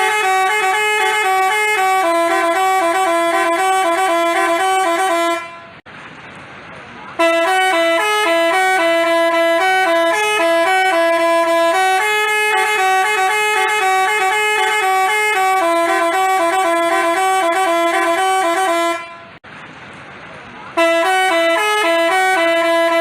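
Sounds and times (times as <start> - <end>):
bus horn playing tune: 0.0 - 5.8, 7.2 - 19.4, 20.8 - 23.0.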